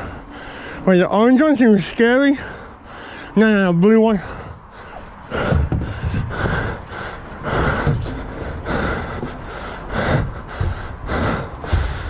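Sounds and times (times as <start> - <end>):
person breathing hard: 0.0 - 0.9, 2.3 - 3.4, 4.1 - 12.0.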